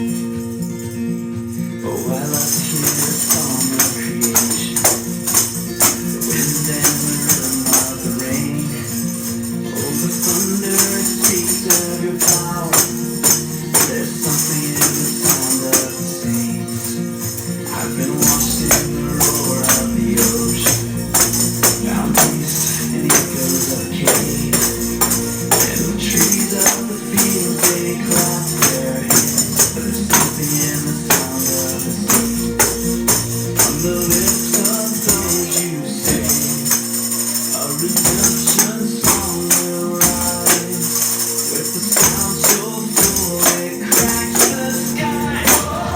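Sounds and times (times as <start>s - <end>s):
christian rock song: 0.0s - 45.9s
tambourines jingling: 0.0s - 45.9s.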